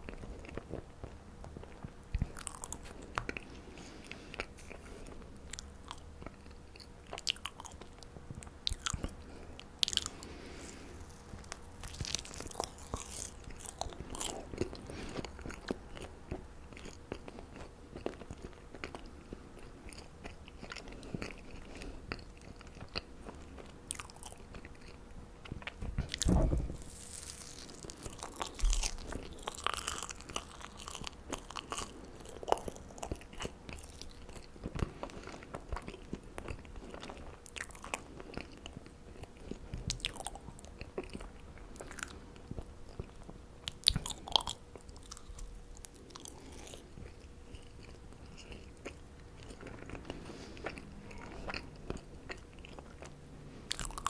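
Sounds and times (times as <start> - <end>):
chewing marshmallows: 0.0 - 54.0.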